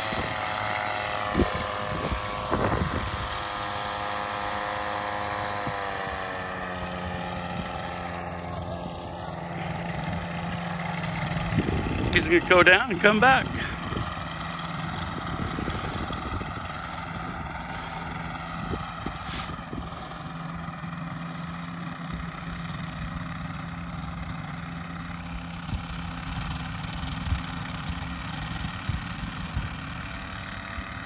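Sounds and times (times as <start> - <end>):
distant light aircraft engine: 0.0 - 31.0.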